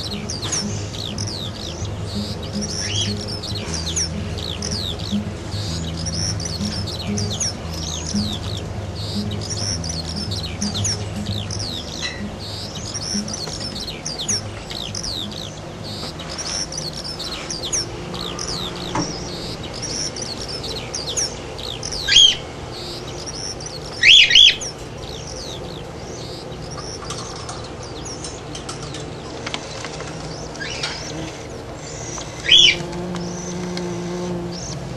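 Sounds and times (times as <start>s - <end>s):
cockatiels chirping: 0.0s - 33.7s
loud bird calls: 0.0s - 34.9s.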